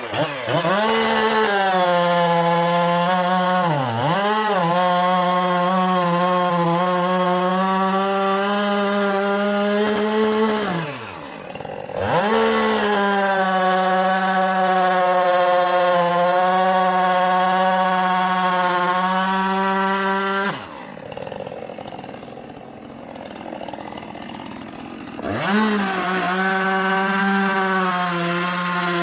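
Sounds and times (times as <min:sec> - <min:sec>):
chainsaw revving and idling: 0:00.0 - 0:29.0.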